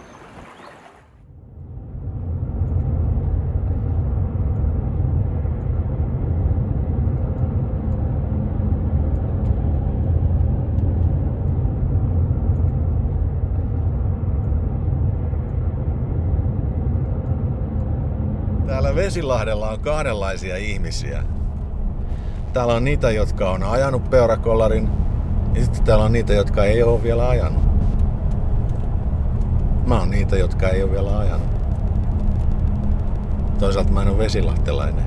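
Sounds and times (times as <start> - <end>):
car road rumble: 1.6 - 35.0.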